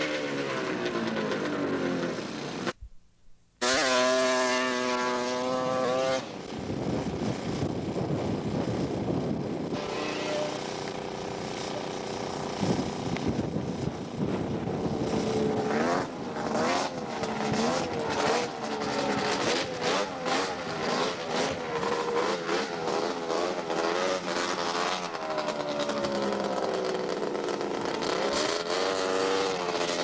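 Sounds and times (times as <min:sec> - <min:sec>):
snowmobile engine revving: 0:00.0 - 0:02.8, 0:03.6 - 0:30.0.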